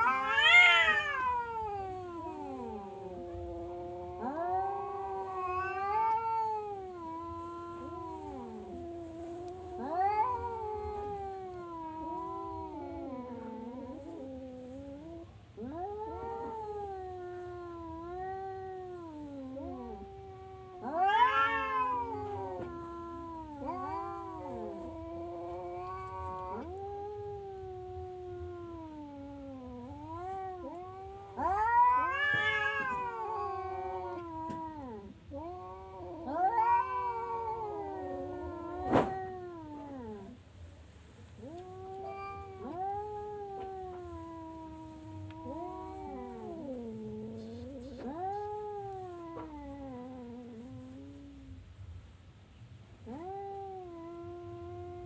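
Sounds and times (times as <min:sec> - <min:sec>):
cat yowling: 0:00.0 - 0:14.4, 0:15.0 - 0:40.4, 0:41.4 - 0:51.6.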